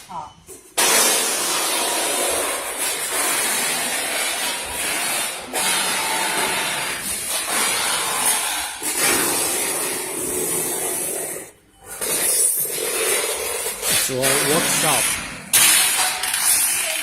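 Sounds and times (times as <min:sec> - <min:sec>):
hissing workshop noise: 0:00.6 - 0:17.0.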